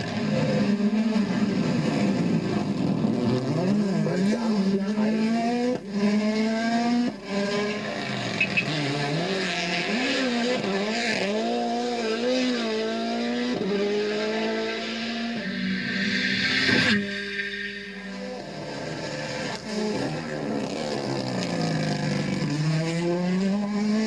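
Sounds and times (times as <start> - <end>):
rally car engine at full throttle: 0.0 - 24.0.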